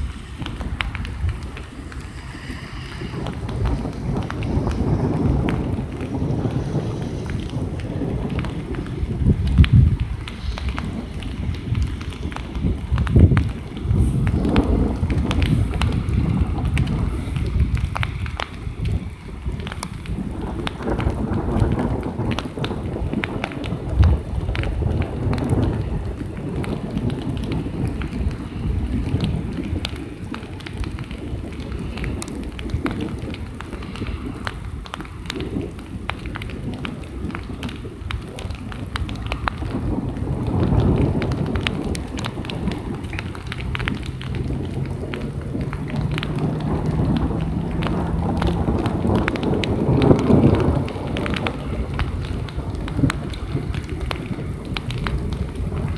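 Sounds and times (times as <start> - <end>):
raindrops ticking: 0.0 - 55.9
steady rain: 0.0 - 55.9
thunder rumbling: 0.0 - 55.9.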